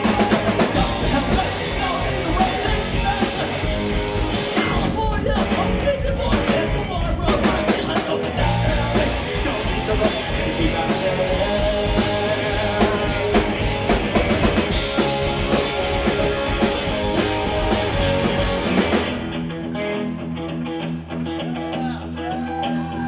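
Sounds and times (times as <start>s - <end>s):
rock band playing live: 0.0s - 23.0s.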